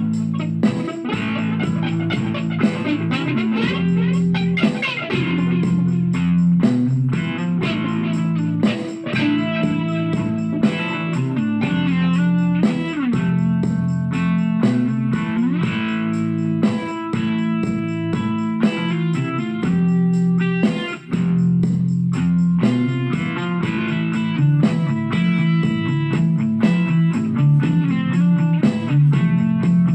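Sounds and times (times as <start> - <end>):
electric guitar melody: 0.0 - 29.9.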